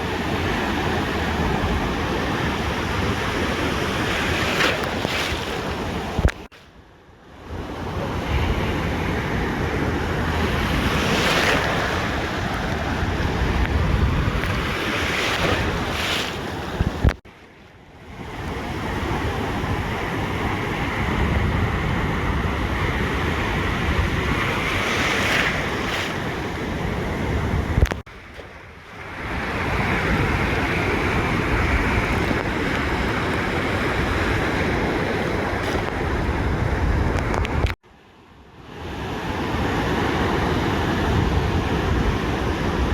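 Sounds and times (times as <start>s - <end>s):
surf washing onto beach: 0.0s - 6.6s, 7.5s - 17.2s, 18.1s - 37.8s
wind rumbling on microphone: 0.0s - 6.6s, 7.4s - 17.2s, 18.0s - 37.8s, 38.9s - 42.9s.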